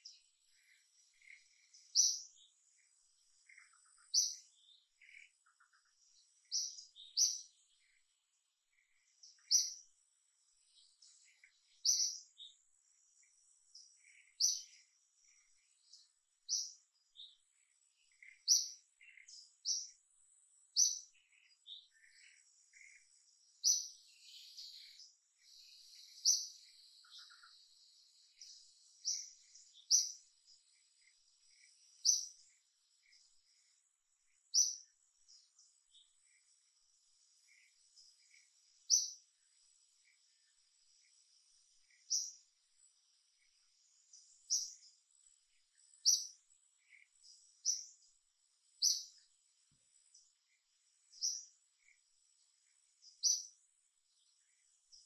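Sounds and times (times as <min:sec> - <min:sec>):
birds chirping: 0:00.0 - 0:55.0
faint background bird calls: 0:00.0 - 0:55.0.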